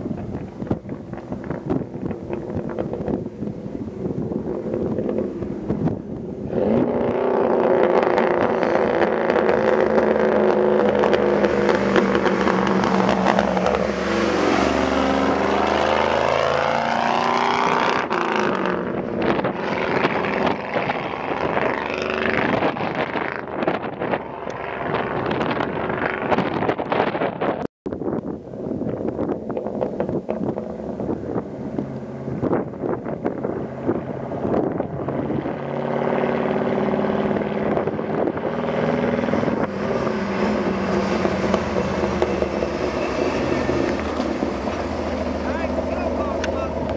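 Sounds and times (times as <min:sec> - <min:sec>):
truck engine driving past: 0:00.3 - 0:26.1, 0:29.7 - 0:46.9.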